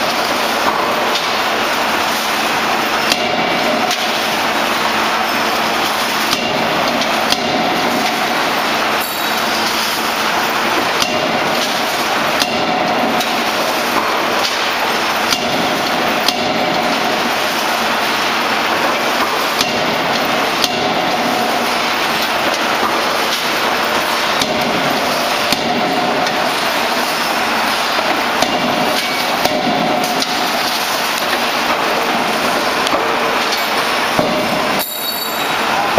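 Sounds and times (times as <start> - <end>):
loud machine noise: 0.0 - 35.9
forging hammer striking steel: 3.1 - 4.2, 6.3 - 9.6, 10.9 - 18.2, 18.8 - 35.9.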